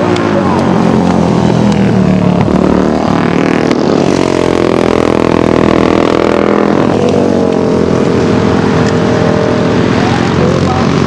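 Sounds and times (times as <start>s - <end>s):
racing engines running hard: 0.0s - 11.0s.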